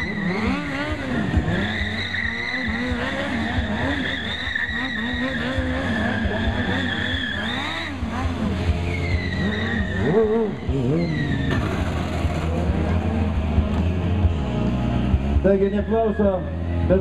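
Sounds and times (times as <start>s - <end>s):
tyre squeal on asphalt: 0.0s - 12.6s, 15.4s - 16.8s
motorcycle engine revving: 0.0s - 17.0s.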